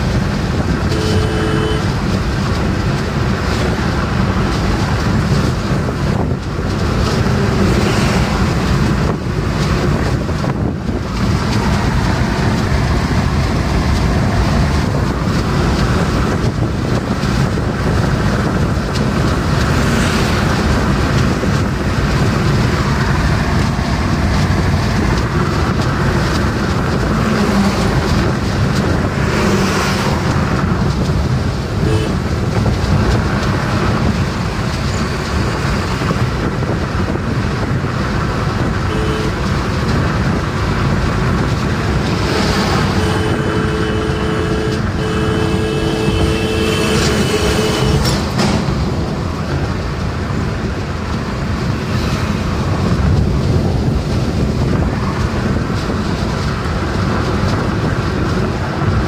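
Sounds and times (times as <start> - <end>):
road tyre and wind noise: 0.0 - 59.0.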